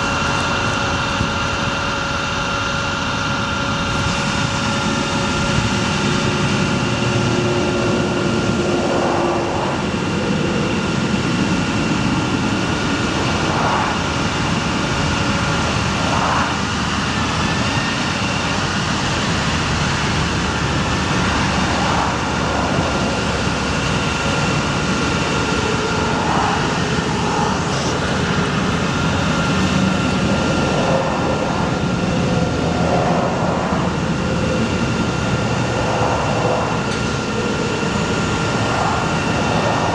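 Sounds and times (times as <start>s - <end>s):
truck engine rumble with whine: 0.0s - 39.9s.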